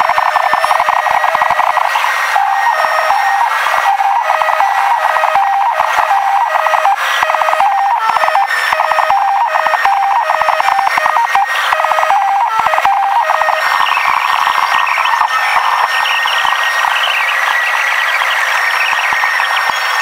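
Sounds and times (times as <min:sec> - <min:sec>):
high electronic tones: 0:00.0 - 0:20.0.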